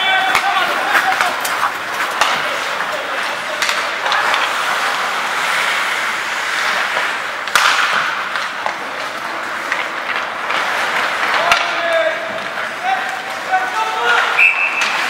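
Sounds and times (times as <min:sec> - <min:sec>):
loud cracks: 0:00.0 - 0:05.6, 0:06.6 - 0:13.4
hockey sticks and puck clacking: 0:00.0 - 0:15.0
skates scraping on ice: 0:00.0 - 0:15.0.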